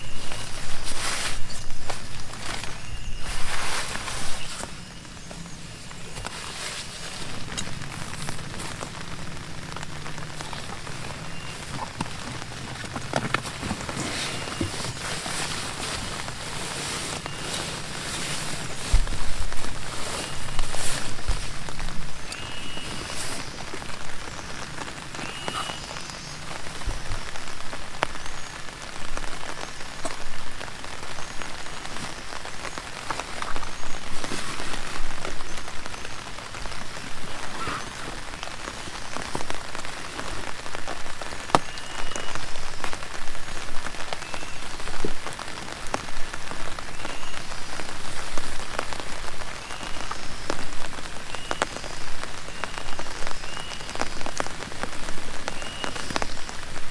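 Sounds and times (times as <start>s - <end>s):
heavy rain falling: 0.0s - 56.9s
raindrops striking close by: 0.0s - 56.9s.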